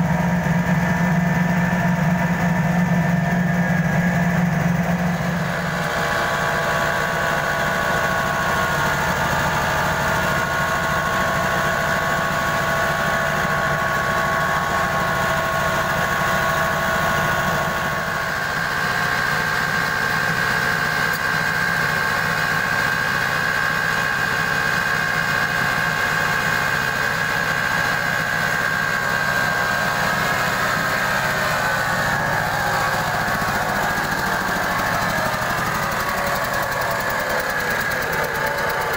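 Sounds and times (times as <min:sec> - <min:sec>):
diesel engine and huller drone: 0:00.0 - 0:38.9
high whine of rotor and blower: 0:00.0 - 0:38.9.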